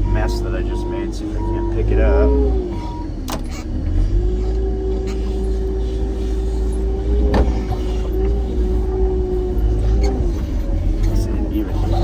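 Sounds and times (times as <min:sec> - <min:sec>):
loader engine rumble and whine: 0:00.0 - 0:12.0.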